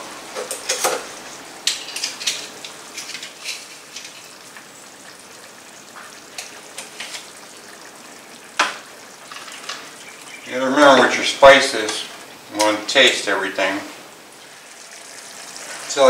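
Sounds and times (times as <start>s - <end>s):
sauce sizzling in a frying pan: 0.3s - 16.0s.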